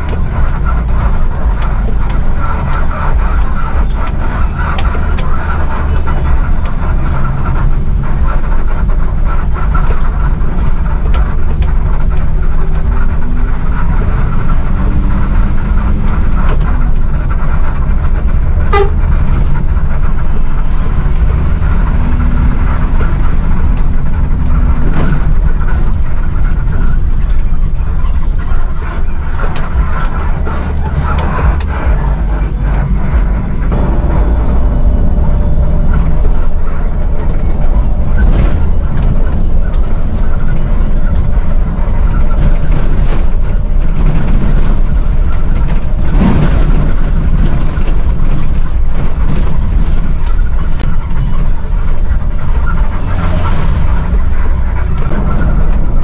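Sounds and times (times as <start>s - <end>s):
coach engine accelerating: 0.0s - 56.0s
road rumble: 0.0s - 56.0s.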